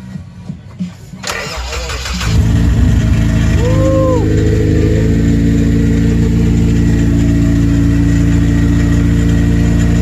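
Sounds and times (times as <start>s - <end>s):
car engine idling: 1.2s - 10.0s.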